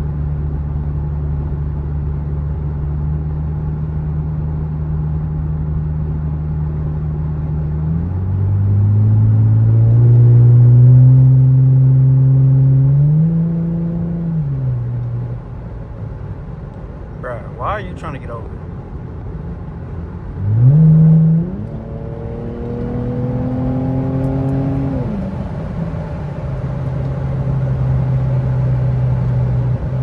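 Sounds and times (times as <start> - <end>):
car exhaust drone and acceleration: 0.0 - 30.0.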